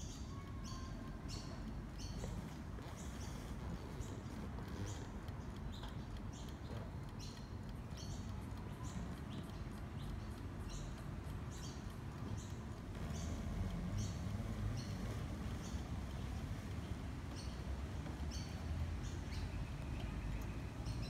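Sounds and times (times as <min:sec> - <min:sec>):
mechanical songbird chirping: 0:00.0 - 0:21.0.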